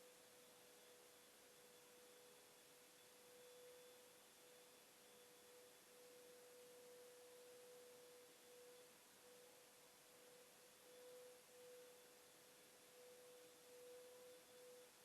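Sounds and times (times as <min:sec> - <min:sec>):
faint steady tone: 0:00.0 - 0:15.0.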